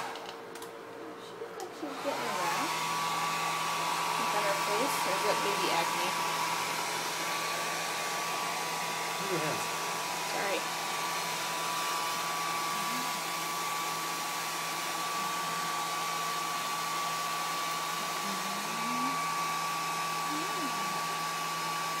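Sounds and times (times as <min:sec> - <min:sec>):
hair dryer running: 0:00.0 - 0:00.7, 0:01.7 - 0:22.0.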